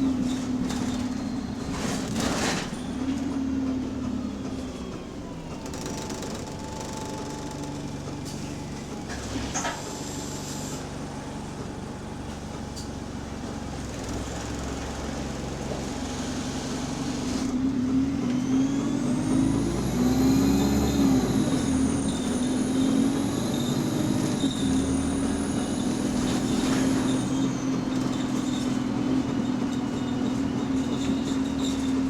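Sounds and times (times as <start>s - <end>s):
bus engine running: 0.0s - 32.0s.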